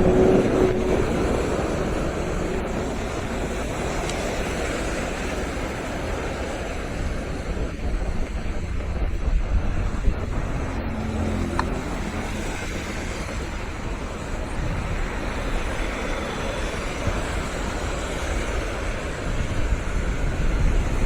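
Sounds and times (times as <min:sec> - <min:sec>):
passing traffic: 0:00.0 - 0:21.0
sea waves: 0:00.0 - 0:21.0
wind buffeting microphone: 0:00.0 - 0:21.0.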